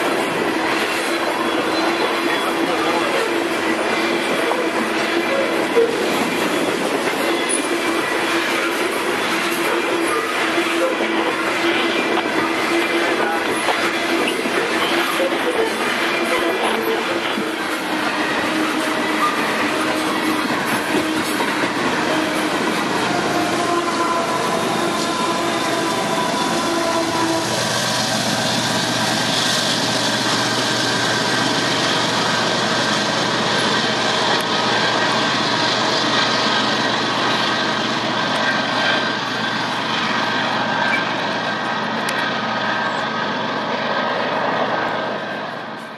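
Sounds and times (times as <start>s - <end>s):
diesel locomotive engine drone: 0.0s - 45.9s
train wheels on rails: 0.0s - 45.9s.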